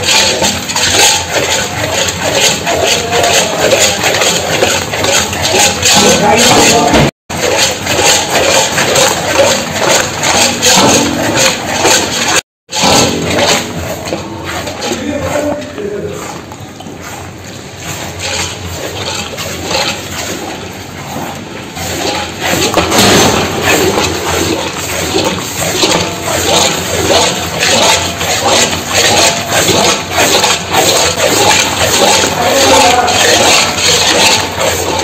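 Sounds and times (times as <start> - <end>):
thick mixture sloshing and bubbling: 0.0 - 35.0.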